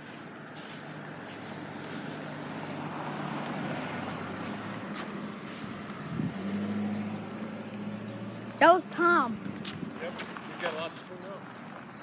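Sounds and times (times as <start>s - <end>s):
vehicle passing by: 0.4s - 11.0s.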